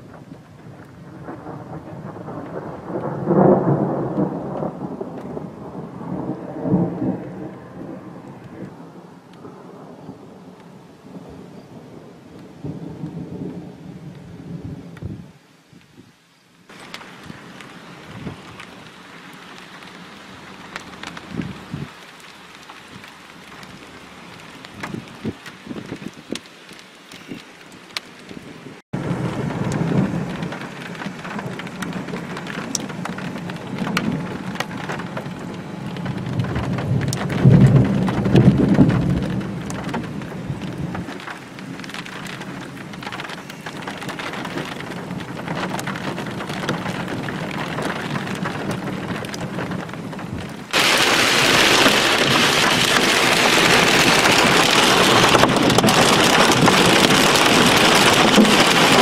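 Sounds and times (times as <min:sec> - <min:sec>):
heavy rain drumming on a car: 0:00.0 - 0:15.3, 0:16.7 - 0:59.0
thunder rumbling: 0:00.0 - 0:15.4, 0:16.7 - 0:27.4, 0:28.2 - 0:59.0
steady rain: 0:00.0 - 0:59.0.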